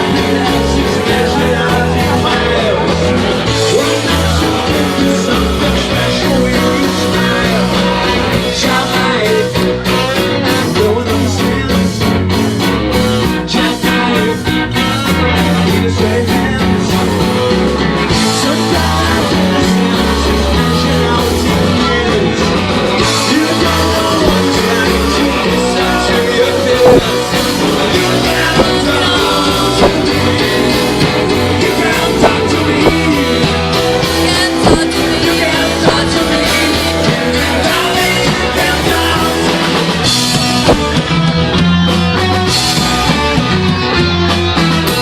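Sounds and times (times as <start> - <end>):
rock song with vocals: 0.0 - 45.0.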